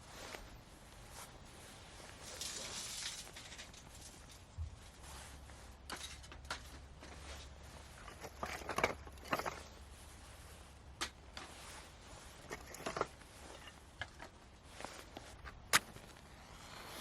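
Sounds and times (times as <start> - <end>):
handling knocks and rustles: 0.0 - 16.5.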